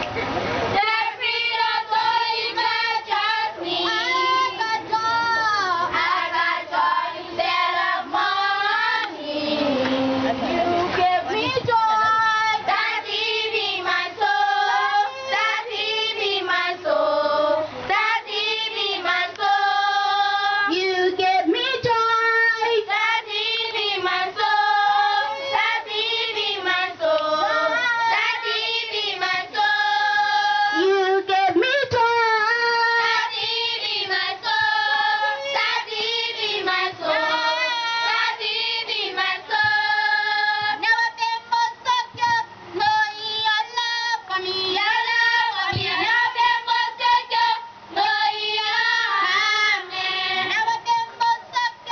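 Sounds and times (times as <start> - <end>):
children singing in chorus: 0.8 - 31.3, 32.4 - 51.9.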